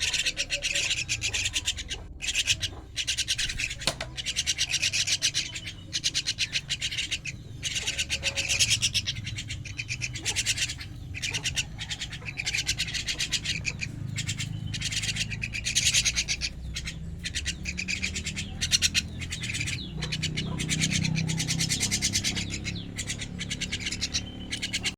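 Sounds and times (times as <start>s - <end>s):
starling chicks begging calls: 0.0s - 24.9s.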